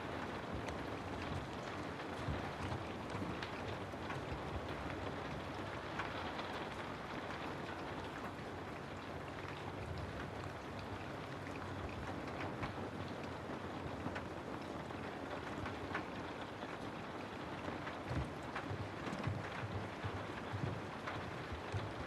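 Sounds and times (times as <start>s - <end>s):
steady rain hiss: 0.0s - 22.0s
raindrops ticking: 0.2s - 22.0s.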